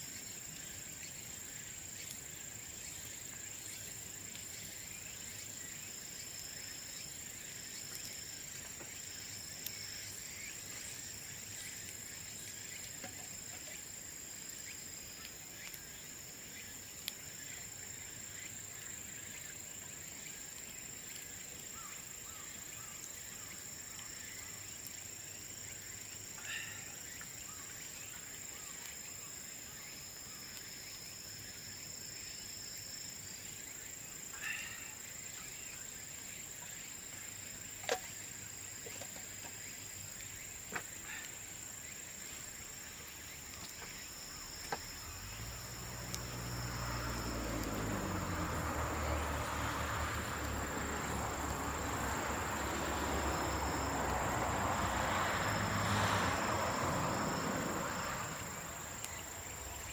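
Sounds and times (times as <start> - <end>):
insect trill: 0.0 - 59.9.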